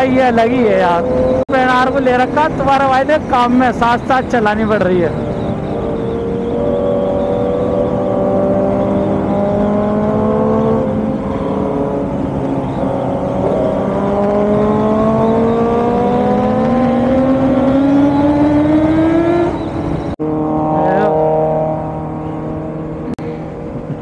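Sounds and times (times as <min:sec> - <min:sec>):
motorcycle engines accelerating: 0:00.0 - 0:24.0.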